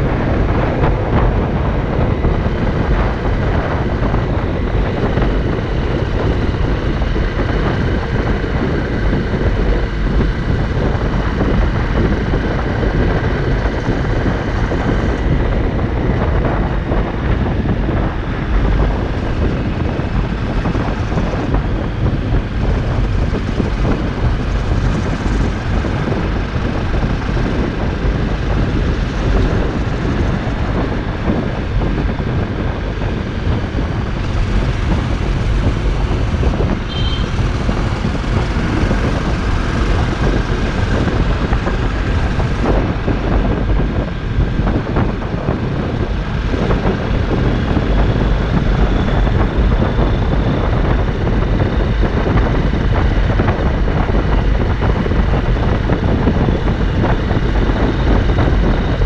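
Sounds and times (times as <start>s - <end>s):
motorcycle engine cruising: 0.0s - 59.0s
wind buffeting microphone: 0.0s - 59.0s.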